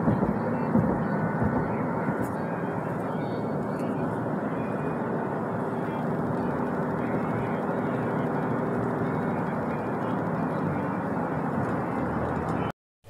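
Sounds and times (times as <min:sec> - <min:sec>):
road and engine noise in car: 0:00.0 - 0:12.8.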